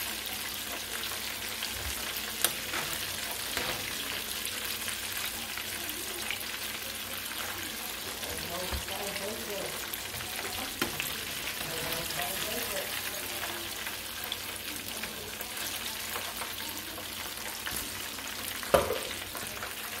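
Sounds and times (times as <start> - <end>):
deep-frying sizzle: 0.0 - 20.0.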